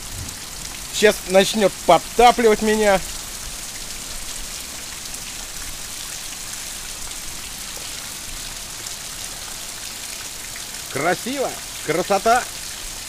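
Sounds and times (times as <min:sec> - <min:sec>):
heavy rain on wet ground: 0:00.0 - 0:13.0.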